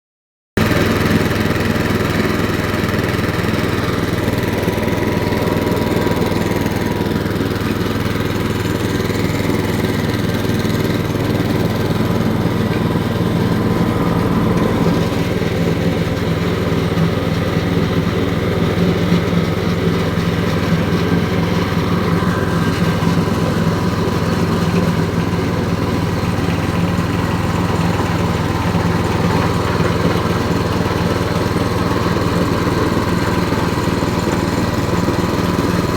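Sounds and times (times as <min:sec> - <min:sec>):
ice shaving machine hum and rasp: 0:00.6 - 0:35.9.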